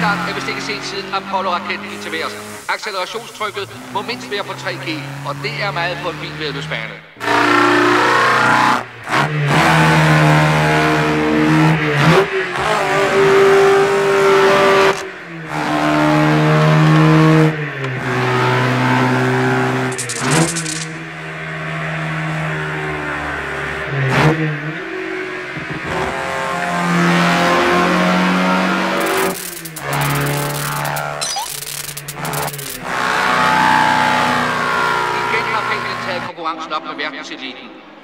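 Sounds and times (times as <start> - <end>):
racing car engine humming: 0.0 - 37.2.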